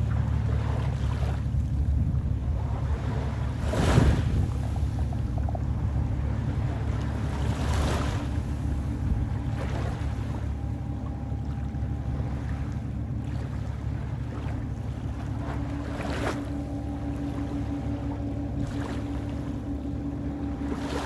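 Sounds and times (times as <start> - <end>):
faint steady hum: 0.0 - 21.0
small waves washing onto beach: 0.0 - 21.0
wind rumble on microphone: 0.0 - 21.0.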